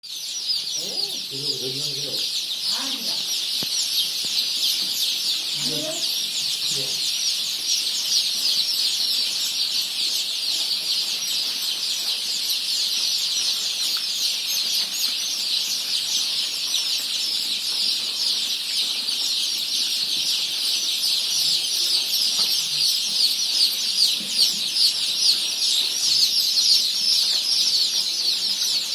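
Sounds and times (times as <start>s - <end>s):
chicks peeping: 0.0s - 28.9s.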